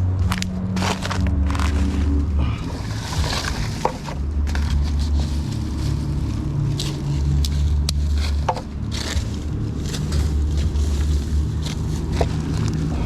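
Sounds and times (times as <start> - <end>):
low rumble: 0.0 - 13.0
stones scraping and crackling: 0.2 - 13.0.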